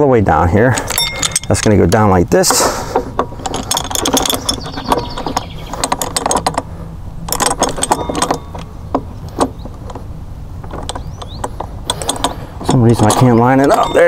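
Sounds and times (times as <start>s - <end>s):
hard parts clicking and clinking: 0.5s - 14.0s.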